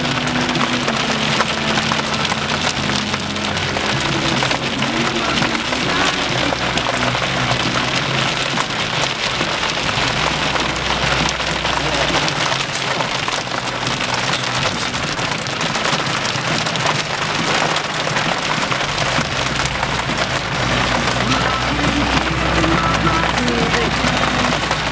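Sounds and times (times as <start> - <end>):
heavy rain pelting a surface: 0.0 - 24.9.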